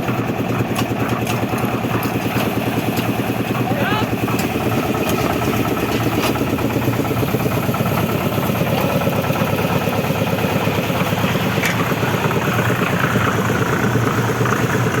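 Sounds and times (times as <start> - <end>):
engine running with low throb: 0.0 - 15.0.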